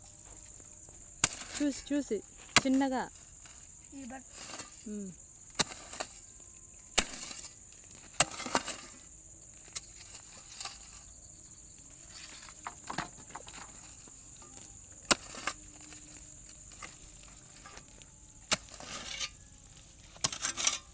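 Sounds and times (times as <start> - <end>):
high-pitched insect drone: 0.0 - 20.9.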